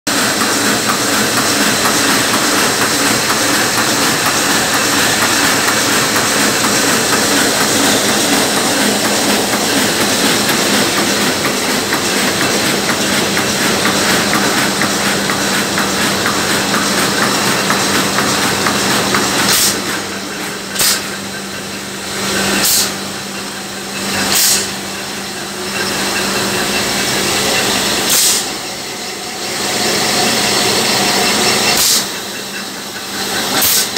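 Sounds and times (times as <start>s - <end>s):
printing press clattering: 0.1s - 33.9s.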